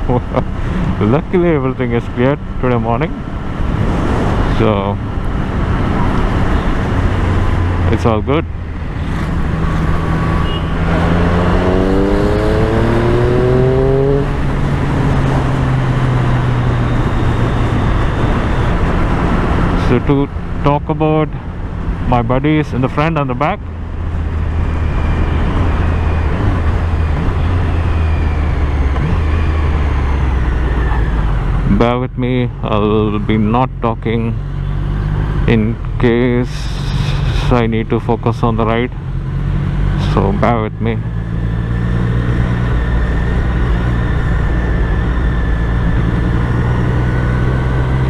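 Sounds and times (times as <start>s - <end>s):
motorcycle engine droning: 0.0s - 48.0s
road noise: 0.0s - 48.0s
wind: 0.0s - 48.0s.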